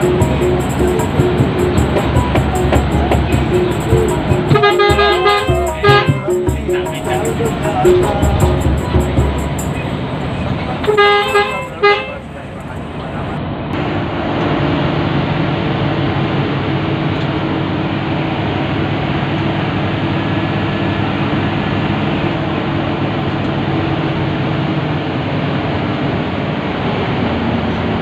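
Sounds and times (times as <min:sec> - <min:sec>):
bus engine drone: 0:00.0 - 0:28.0
road and tyre noise: 0:00.0 - 0:28.0.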